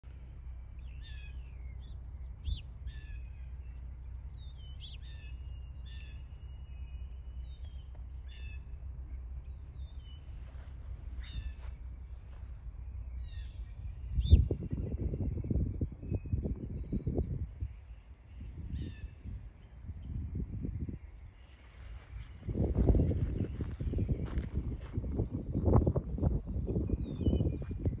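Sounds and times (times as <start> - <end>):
wild birds calling: 0.0 - 16.0, 16.8 - 24.9
steady low rumble: 0.0 - 28.0.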